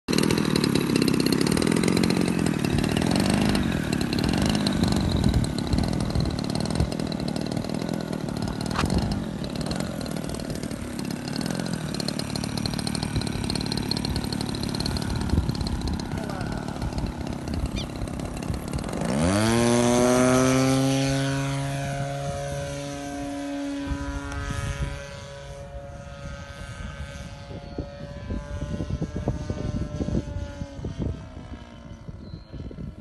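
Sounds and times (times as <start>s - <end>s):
model airplane engine running: 0.1s - 33.0s.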